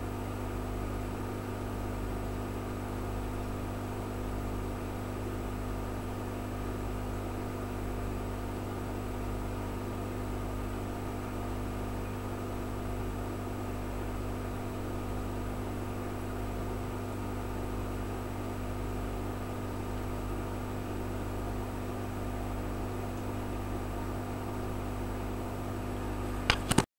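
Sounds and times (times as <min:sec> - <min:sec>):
filter pump electric hum: 0:00.0 - 0:26.9.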